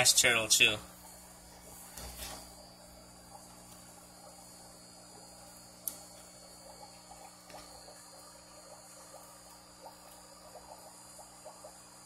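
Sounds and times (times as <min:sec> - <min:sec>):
aquarium filter hum: 0:00.0 - 0:12.0
faint water trickle: 0:00.0 - 0:12.0.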